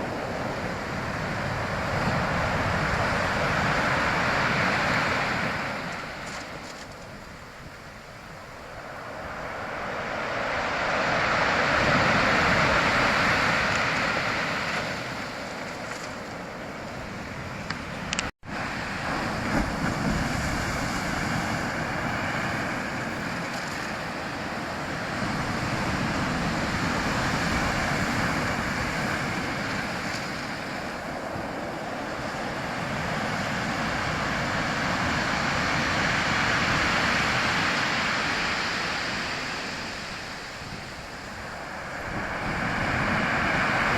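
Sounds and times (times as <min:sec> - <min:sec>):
sea waves washing ashore: 0:00.0 - 0:43.9.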